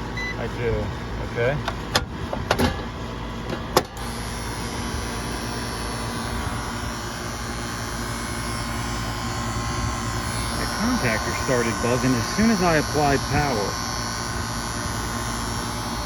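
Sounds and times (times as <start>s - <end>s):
contactor electrical buzz: 0.0s - 16.0s.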